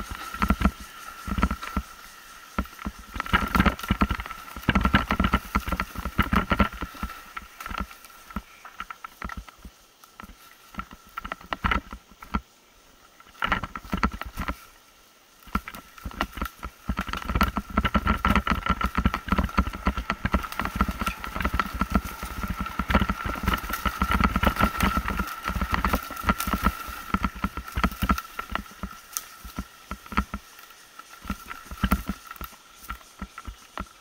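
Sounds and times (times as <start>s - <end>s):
bike rattling over bumps: 0.0s - 34.0s
tyres crunching through dry leaves: 0.0s - 34.0s.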